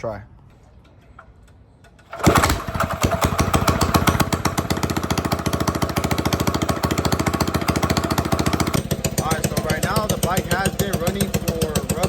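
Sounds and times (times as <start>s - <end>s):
small engine pull-started: 1.9s - 12.0s.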